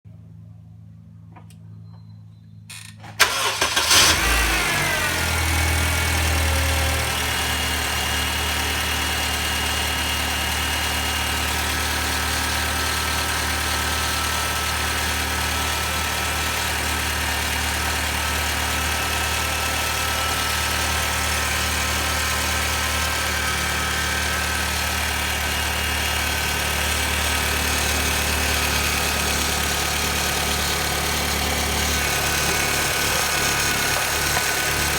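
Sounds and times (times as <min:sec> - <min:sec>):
car engine starting and idling: 0:03.0 - 0:34.9.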